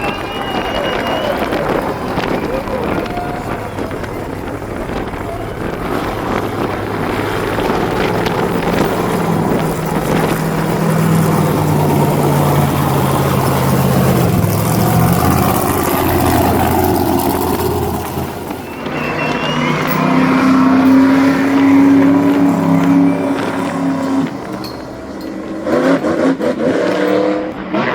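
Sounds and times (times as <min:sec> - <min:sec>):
vehicle engine revving: 0:00.0 - 0:27.9.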